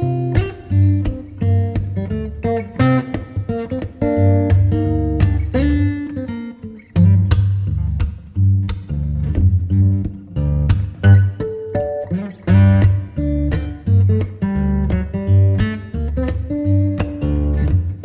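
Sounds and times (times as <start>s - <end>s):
plucked guitar notes: 0.0s - 18.0s.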